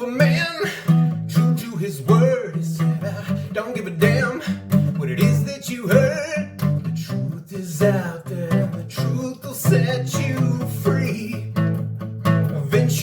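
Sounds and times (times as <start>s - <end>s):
person singing: 0.0s - 11.6s, 12.5s - 13.0s
guitar strumming: 0.0s - 13.0s.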